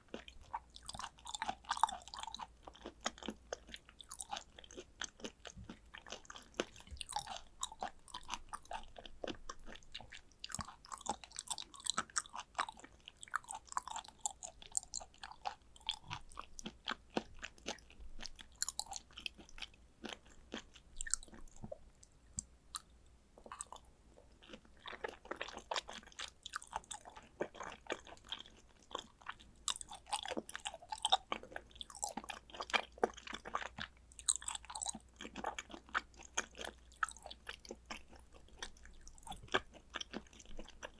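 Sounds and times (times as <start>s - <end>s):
wet chewing mouth clicks: 0.1s - 40.9s.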